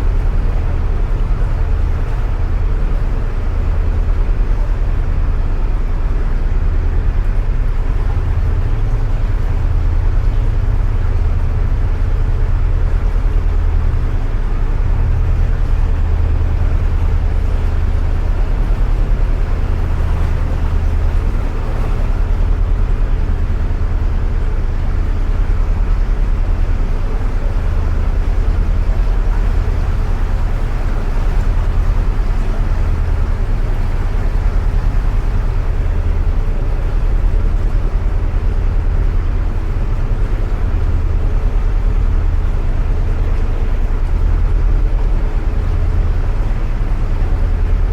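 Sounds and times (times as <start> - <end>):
boat engine humming: 0.0 - 47.9.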